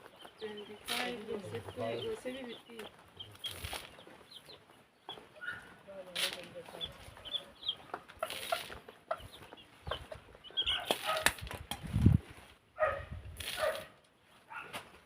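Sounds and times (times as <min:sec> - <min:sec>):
chickens clucking: 0:00.0 - 0:12.2.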